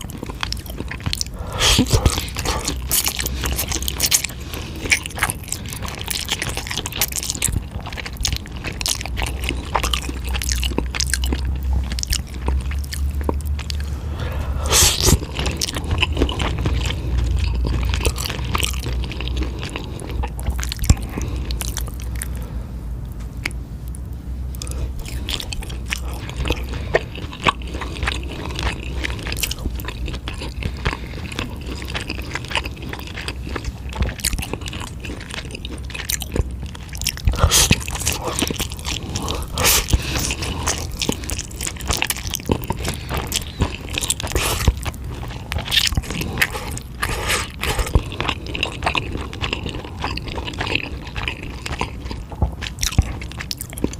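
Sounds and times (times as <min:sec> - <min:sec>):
wet mouth sounds: 0:00.0 - 0:22.5, 0:24.6 - 0:53.9
chewing and biting: 0:00.0 - 0:53.9.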